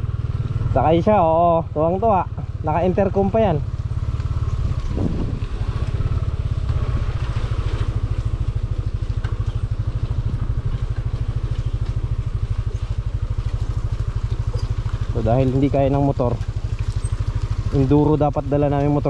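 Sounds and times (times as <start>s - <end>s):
scooter engine running slowly: 0.0s - 19.0s.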